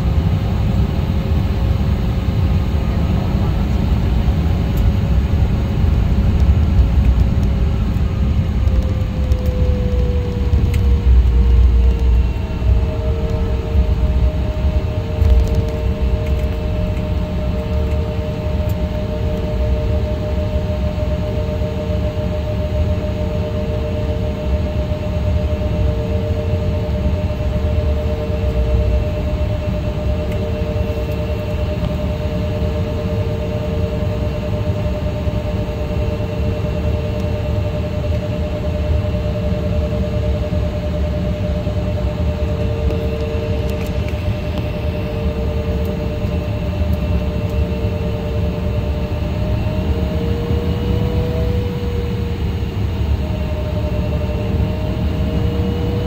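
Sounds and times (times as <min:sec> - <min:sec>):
intermittent hum: 0:00.0 - 0:56.0
jet cabin rumble and air rush: 0:00.0 - 0:56.0
steady hum: 0:00.0 - 0:56.0.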